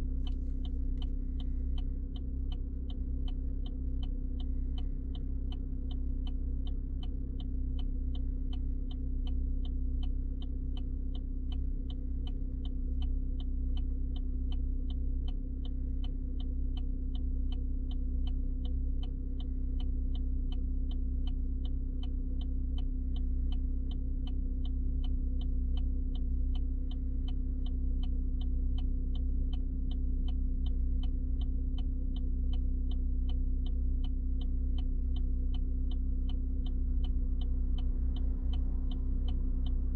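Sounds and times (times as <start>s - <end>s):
even ticking: 0.0s - 39.9s
low engine hum: 0.0s - 39.9s.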